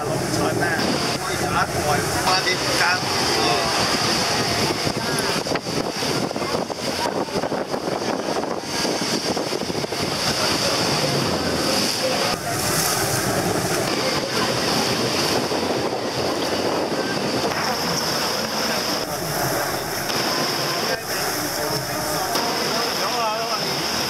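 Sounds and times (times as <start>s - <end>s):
water rushing: 0.0s - 24.0s
wind noise on microphone: 0.0s - 24.0s.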